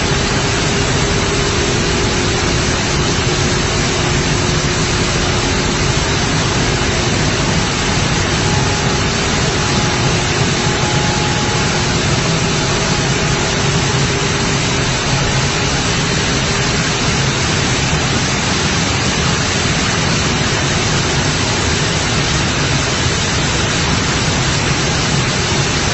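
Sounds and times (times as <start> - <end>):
milling machinery rushing noise: 0.0 - 25.9.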